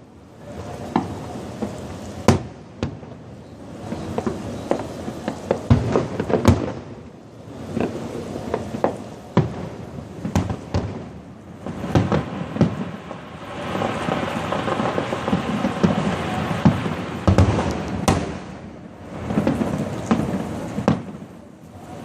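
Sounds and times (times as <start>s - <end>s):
fireworks bangs: 0.0s - 22.0s
fireworks crackling: 0.0s - 22.0s.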